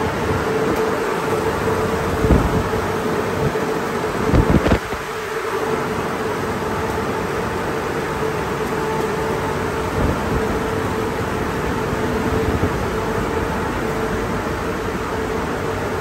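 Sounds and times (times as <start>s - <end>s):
dryer blowers rushing air: 0.0s - 16.0s.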